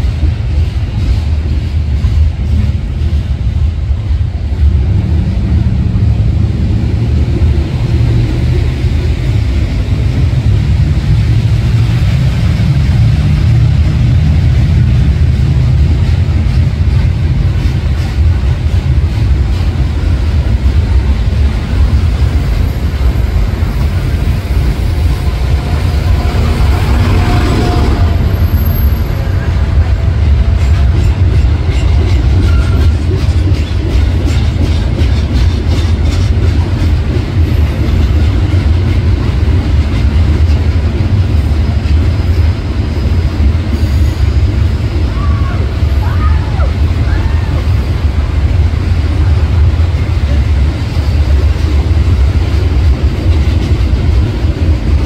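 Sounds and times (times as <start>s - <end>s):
wheels clickety-clack: 0.0s - 26.6s, 27.2s - 55.0s
freight train wheels rumbling: 0.0s - 55.0s.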